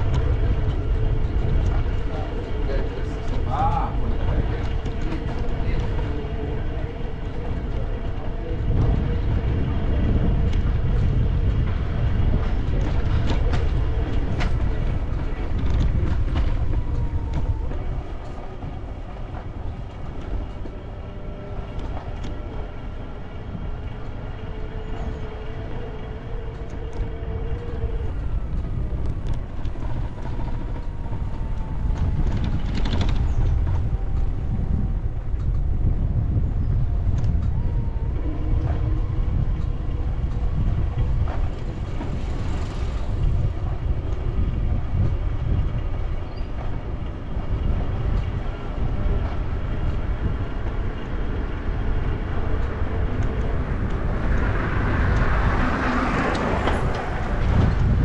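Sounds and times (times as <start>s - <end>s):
low street rumble: 0.0s - 58.0s.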